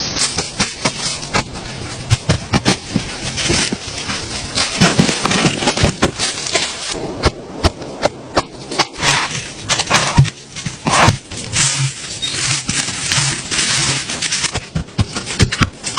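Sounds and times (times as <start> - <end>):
branches rustling: 0.0 - 15.9.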